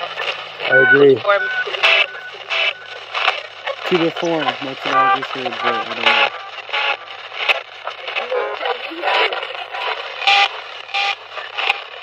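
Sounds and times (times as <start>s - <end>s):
radio hiss: 0.0s - 12.0s
radio music fragments: 0.0s - 12.0s
radio voice fragments: 0.0s - 12.0s.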